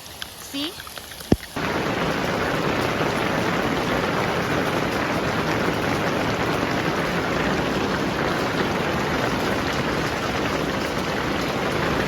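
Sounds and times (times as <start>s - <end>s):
heavy rain with hail: 0.0s - 12.0s.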